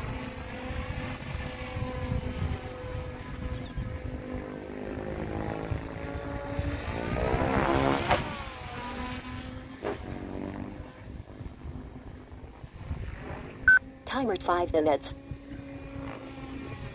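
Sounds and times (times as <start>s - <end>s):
model helicopter rotor whine: 0.0s - 16.9s.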